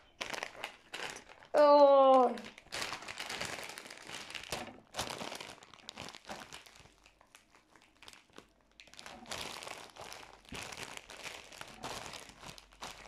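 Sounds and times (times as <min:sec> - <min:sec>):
plastic chip bag crinkling: 0:00.0 - 0:13.0.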